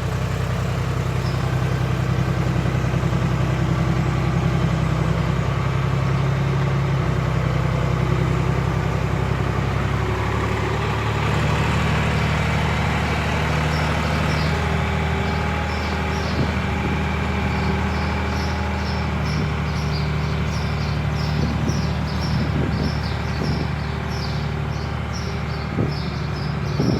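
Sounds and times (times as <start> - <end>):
backhoe engine idling: 0.0 - 26.9.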